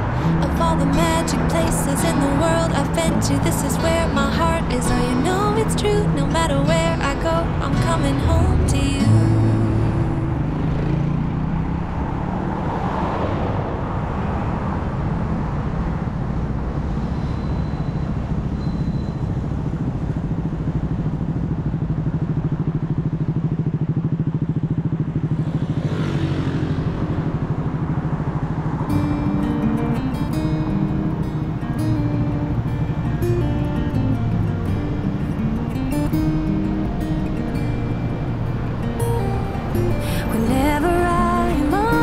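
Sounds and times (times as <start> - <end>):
vehicle engine drone: 0.0 - 42.0
vehicles passing: 0.0 - 42.0.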